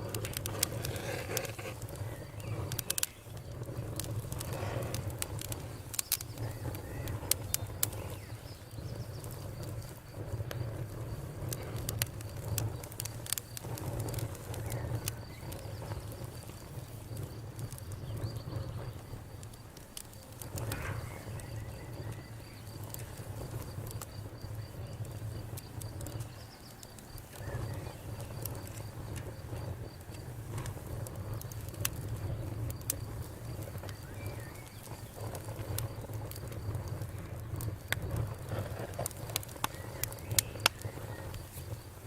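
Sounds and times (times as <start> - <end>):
burning wood popping and snapping: 0.0 - 42.0
low rumble of flames: 0.0 - 42.0.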